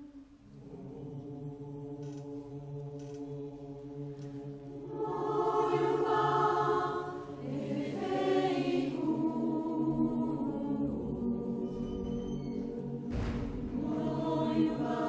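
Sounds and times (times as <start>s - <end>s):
mixed choir chanting: 0.0s - 15.0s.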